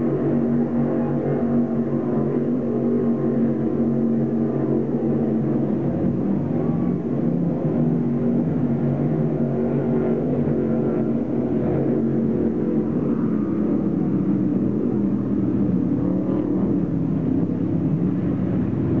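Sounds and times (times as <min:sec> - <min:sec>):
powerboat engines droning: 0:00.0 - 0:19.0.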